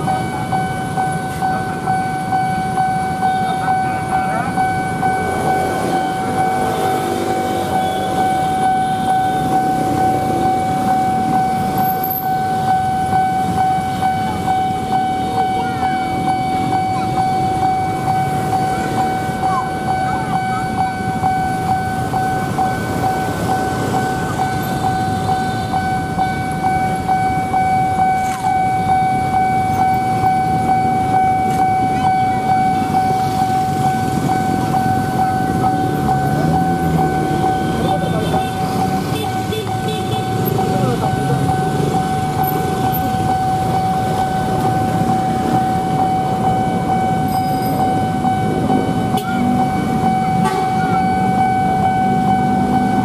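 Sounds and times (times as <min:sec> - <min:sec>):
motorcycle engines idling: 0:00.0 - 0:52.9
level crossing alarm tone: 0:00.0 - 0:53.0.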